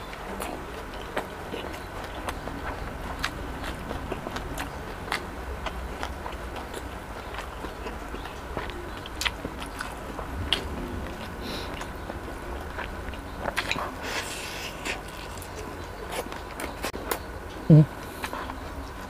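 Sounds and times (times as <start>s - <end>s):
person chewing fried chicken: 0.3s - 19.0s.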